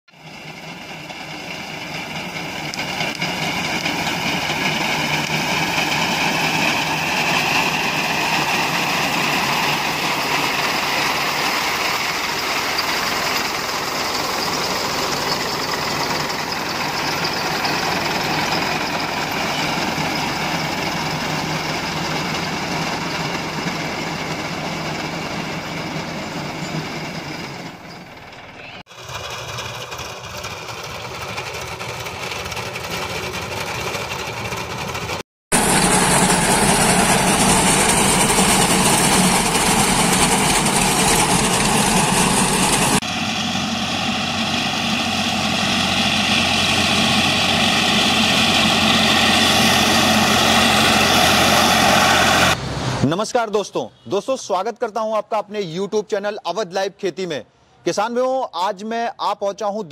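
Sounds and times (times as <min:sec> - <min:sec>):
tractor engine running: 0:00.1 - 0:52.9.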